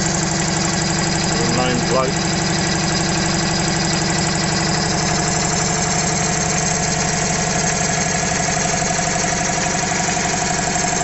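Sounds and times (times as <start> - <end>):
air compressor chugging: 0.0 - 11.0.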